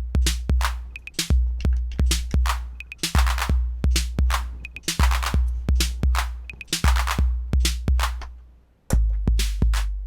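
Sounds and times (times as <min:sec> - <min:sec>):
drum machine bass drum booms: 0:00.0 - 0:10.0
drum machine hand claps: 0:00.0 - 0:10.0.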